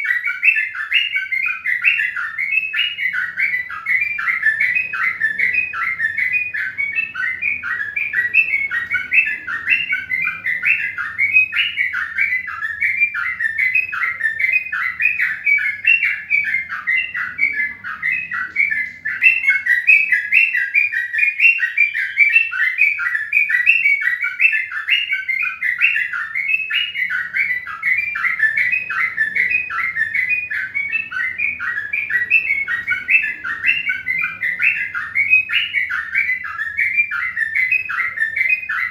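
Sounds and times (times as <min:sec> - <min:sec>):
faint low hum: 0:00.0 - 0:38.9
small birds chirping: 0:00.0 - 0:38.9.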